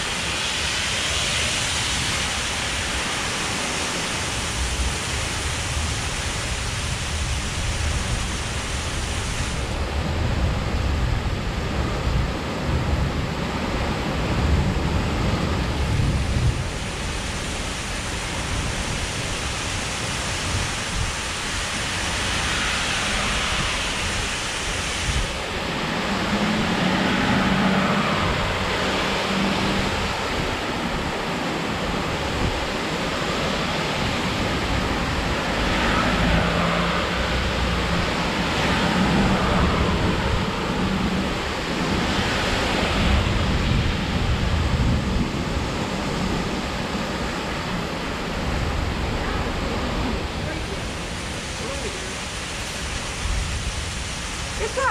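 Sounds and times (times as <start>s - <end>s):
torrential rain pouring: 0.0s - 54.9s.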